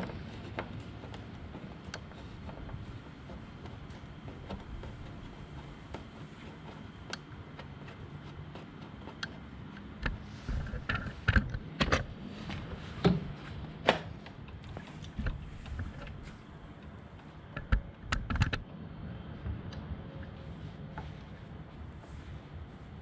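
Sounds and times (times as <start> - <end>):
clicks and knocks of controls: 0.0 - 18.8.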